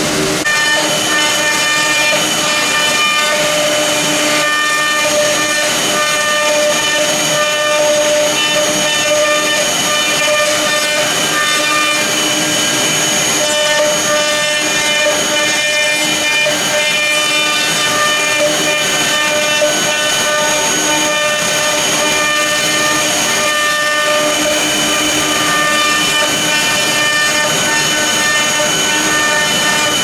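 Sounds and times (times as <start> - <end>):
bit cutting wood: 0.0 - 30.0
router machine whine: 0.0 - 30.0.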